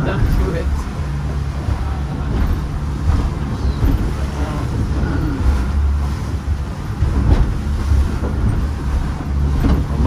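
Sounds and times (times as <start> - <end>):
motorboat engine drone: 0.0 - 10.0
wind buffeting microphone: 0.0 - 10.0.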